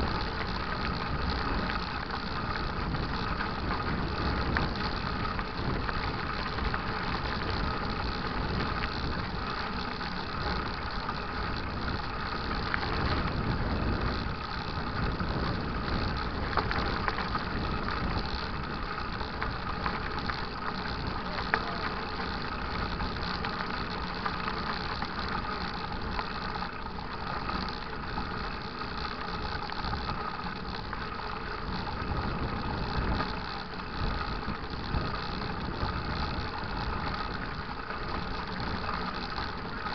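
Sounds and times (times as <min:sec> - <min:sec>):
bike rattling and knocking: 0:00.0 - 0:39.9
bike tyres rumbling on dirt: 0:00.0 - 0:39.9
wind: 0:00.0 - 0:39.9.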